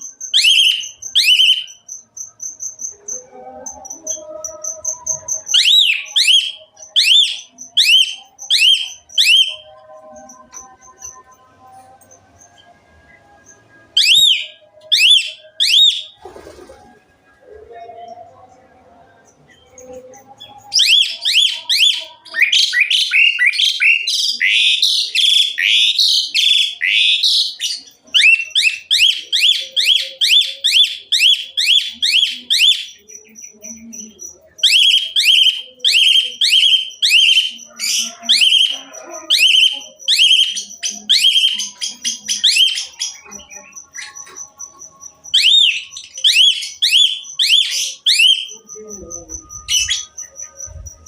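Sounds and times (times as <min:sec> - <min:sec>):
starling whistled song: 0:00.0 - 0:51.0.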